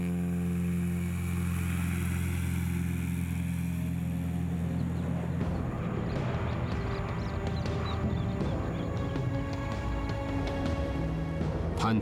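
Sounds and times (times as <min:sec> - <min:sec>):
light aircraft engine humming: 0:00.0 - 0:12.0.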